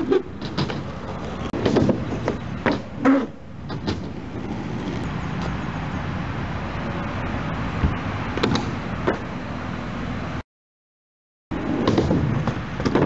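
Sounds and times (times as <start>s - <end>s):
skateboard wheels rolling on concrete: 0.0s - 10.4s, 11.5s - 13.0s.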